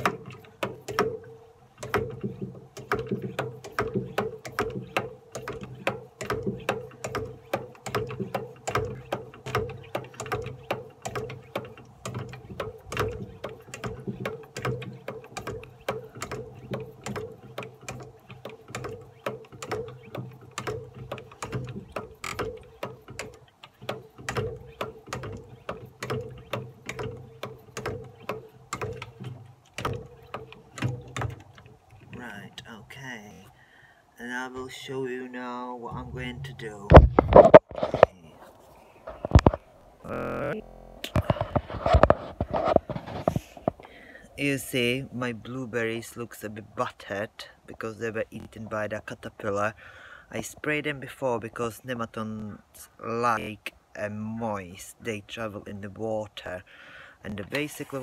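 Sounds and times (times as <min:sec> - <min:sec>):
hand pump sprayer pumping: 0:00.0 - 0:33.6, 0:35.9 - 0:39.6, 0:40.2 - 0:50.9, 0:55.4 - 0:58.0.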